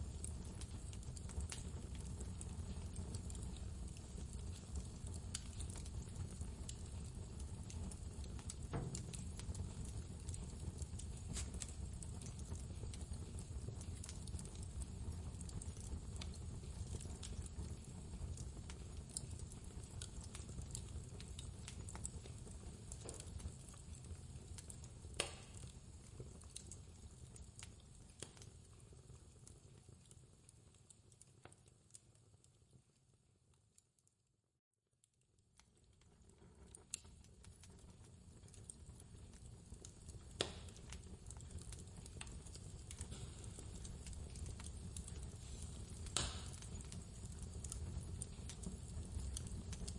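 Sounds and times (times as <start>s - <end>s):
fire pops: 0.0s - 32.6s, 35.1s - 49.9s
wood fire crackling: 0.0s - 34.1s, 35.0s - 49.9s.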